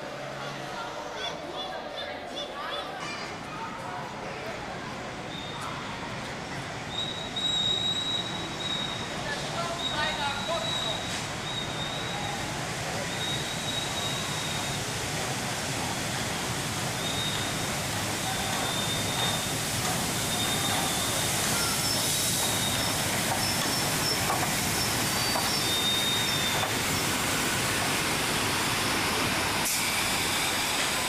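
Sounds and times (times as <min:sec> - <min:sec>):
steam train rumbling: 0:04.1 - 0:31.0.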